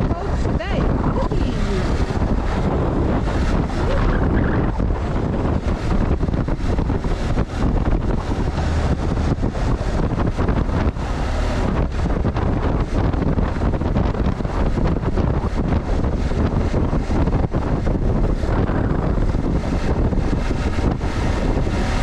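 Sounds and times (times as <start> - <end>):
vehicle running noise: 0.0 - 22.0
wind buffeting microphone: 0.0 - 22.0.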